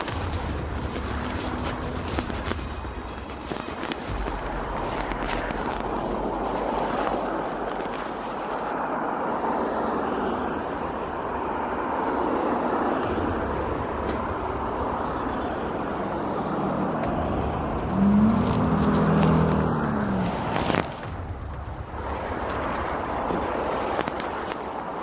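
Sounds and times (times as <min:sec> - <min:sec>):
steady engine-like tone: 0:00.0 - 0:24.3
passing cars: 0:00.0 - 0:25.0.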